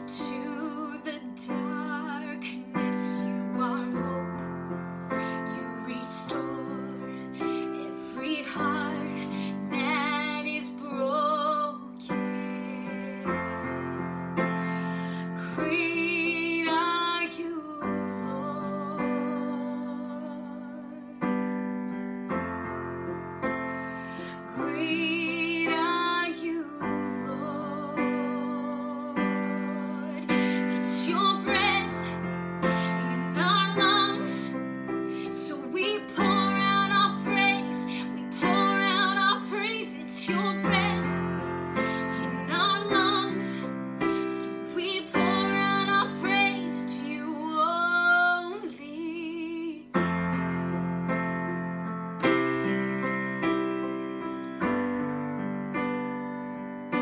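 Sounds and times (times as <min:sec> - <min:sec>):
woman singing: 0:00.0 - 0:14.2, 0:15.0 - 0:21.5, 0:24.3 - 0:50.0
piano chords: 0:00.0 - 0:57.0.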